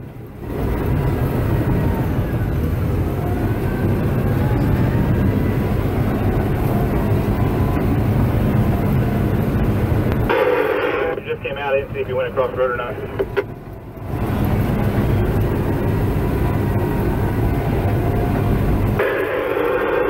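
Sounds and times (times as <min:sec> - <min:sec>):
diesel engine drone: 0:00.0 - 0:20.0
faint gliding whine: 0:00.0 - 0:20.0.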